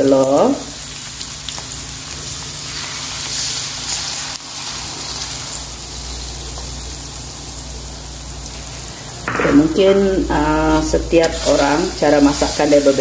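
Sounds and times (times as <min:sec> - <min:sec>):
egg sizzling in hot oil: 0:00.0 - 0:09.3, 0:10.2 - 0:13.0.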